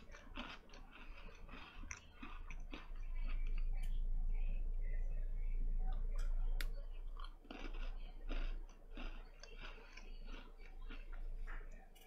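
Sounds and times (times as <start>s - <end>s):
crunchy cookie chewing: 0.0s - 4.0s, 5.9s - 12.0s
steady low hum: 0.0s - 12.0s.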